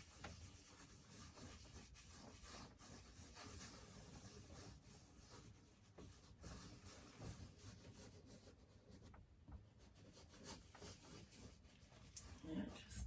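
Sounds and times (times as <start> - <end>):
brush scratching on canvas: 0.0 - 9.1, 9.7 - 13.0.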